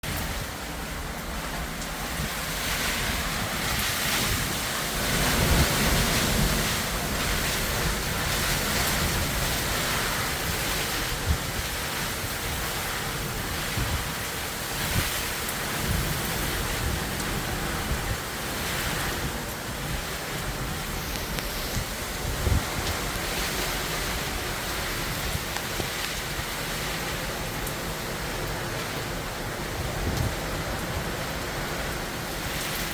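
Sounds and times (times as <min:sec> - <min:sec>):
wind and rain rushing: 0:00.0 - 0:32.9
wind buffeting microphone: 0:00.0 - 0:32.9.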